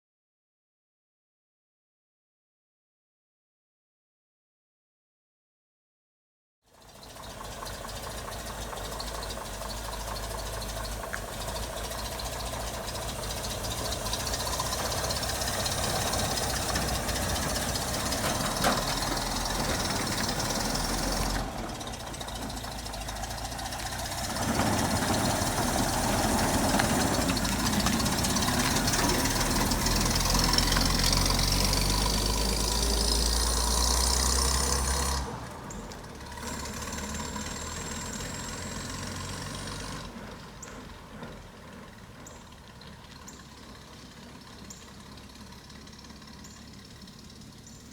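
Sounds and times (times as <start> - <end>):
pickup truck engine running: 6.8 - 47.9.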